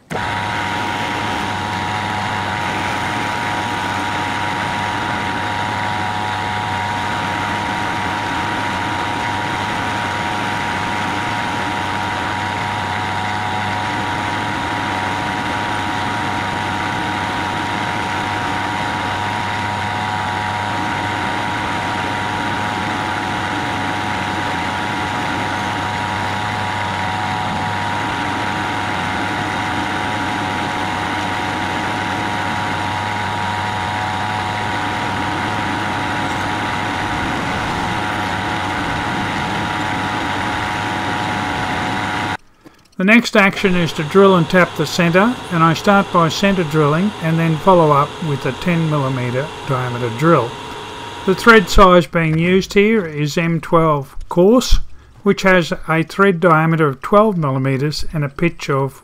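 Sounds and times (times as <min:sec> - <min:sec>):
metal lathe whining: 0:00.0 - 0:55.7.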